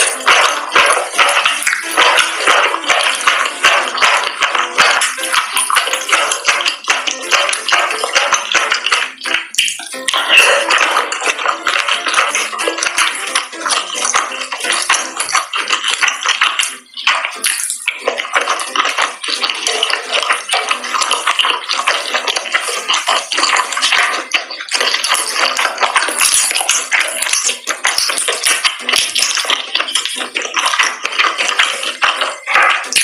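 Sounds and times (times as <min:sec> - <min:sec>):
background music: 0:00.0 - 0:33.0
wet chewing and mouth sounds: 0:00.0 - 0:33.0.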